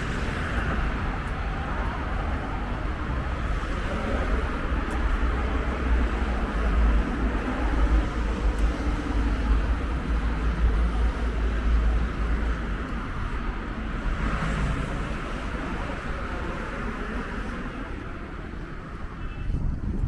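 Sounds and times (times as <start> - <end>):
city street traffic: 0.0 - 20.0
wind buffeting microphone: 0.0 - 20.0.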